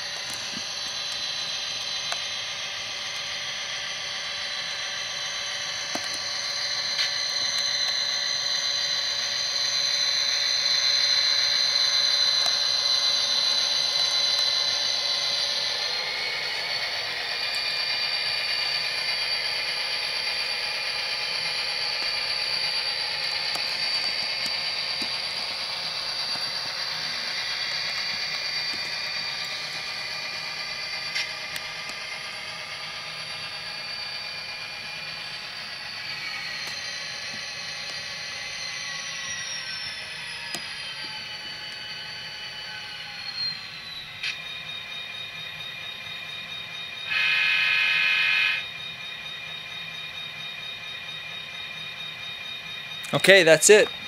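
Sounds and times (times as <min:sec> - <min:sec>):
simulated diesel engine sound: 0:00.0 - 0:54.0.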